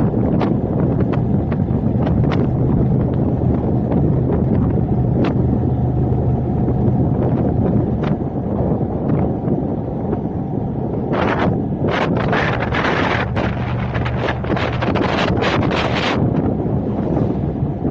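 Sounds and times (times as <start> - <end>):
road and engine rumble: 0.0 - 17.9
wind buffeting microphone: 0.0 - 17.9.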